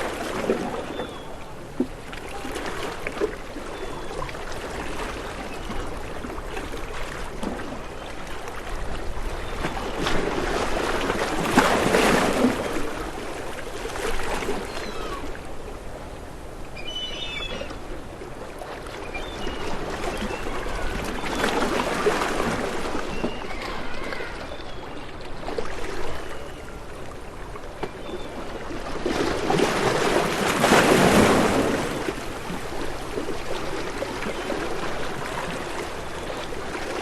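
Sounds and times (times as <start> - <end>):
waves washing in: 0.0 - 24.4, 28.4 - 37.0.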